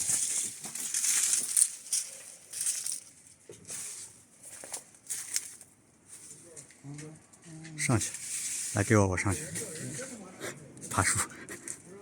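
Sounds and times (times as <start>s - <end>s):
branches rustling and crunching: 0.0s - 11.8s.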